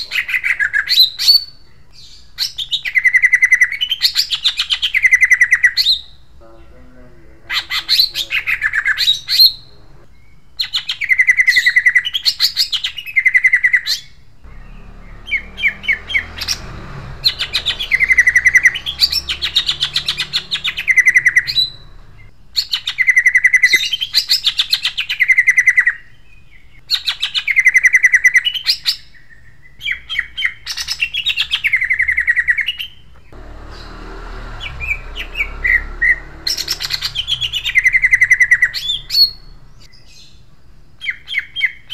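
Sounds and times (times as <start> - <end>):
bird singing harsh rapid phrases: 0.0 - 41.9.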